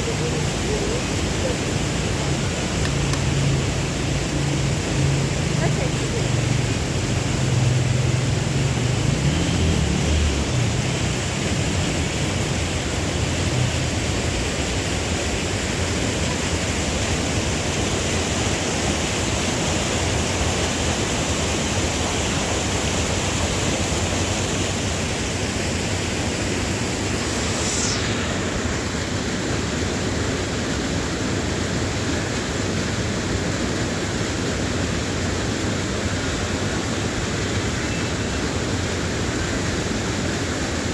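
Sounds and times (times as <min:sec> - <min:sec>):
waterfall rushing water: 0:00.0 - 0:40.9.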